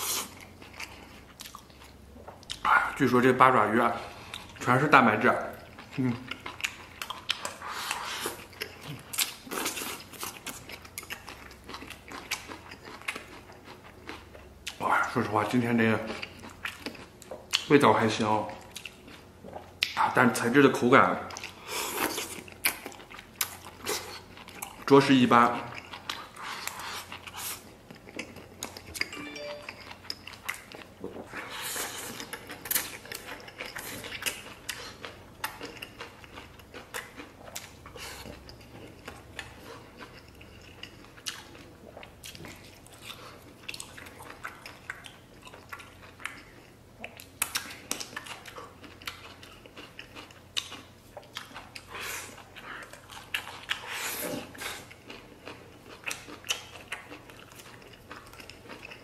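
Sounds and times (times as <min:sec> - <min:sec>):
chewing and lip smacking: 0:00.0 - 0:03.0, 0:05.4 - 0:17.8, 0:18.5 - 0:20.4, 0:21.2 - 0:59.0.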